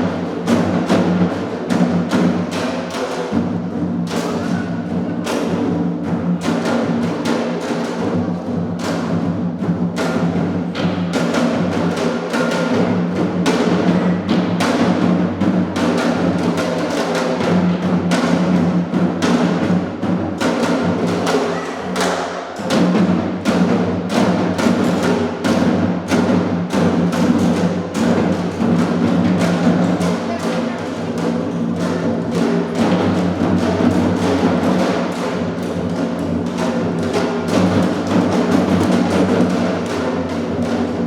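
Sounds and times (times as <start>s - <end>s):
percussion music with rapid drums: 0.0s - 41.0s.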